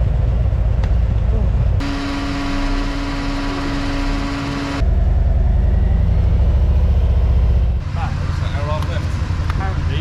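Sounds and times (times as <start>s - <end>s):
deep motorcycle engine rumble: 0.0s - 10.0s
wind and road noise: 0.0s - 10.0s.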